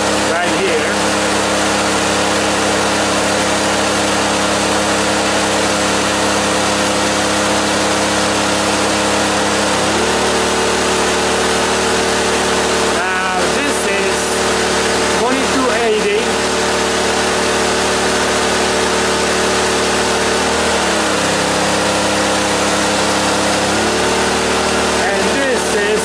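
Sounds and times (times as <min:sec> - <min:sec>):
generator engine running: 0:00.0 - 0:26.0
hair dryers hissing: 0:00.0 - 0:26.0.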